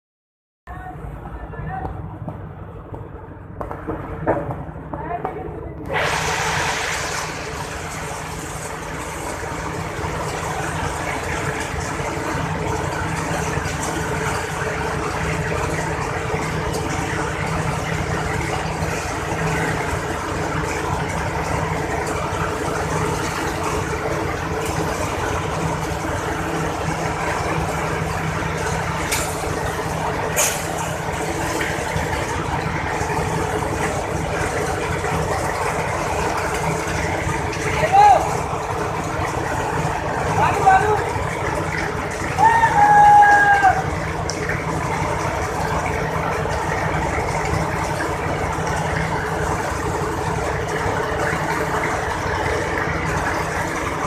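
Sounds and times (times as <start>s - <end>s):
machine engine running: 0.9s - 42.4s, 43.7s - 54.0s.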